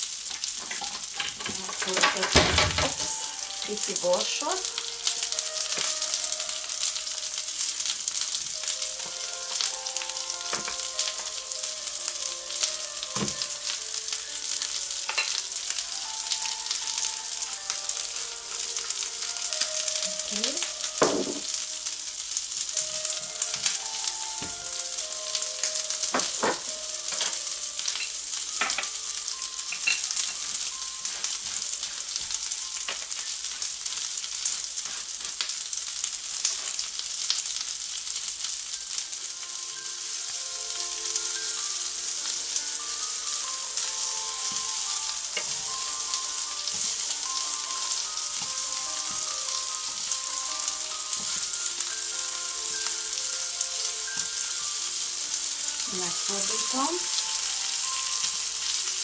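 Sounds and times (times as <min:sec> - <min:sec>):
vegetables sizzling in a pan: 0:00.0 - 0:59.0.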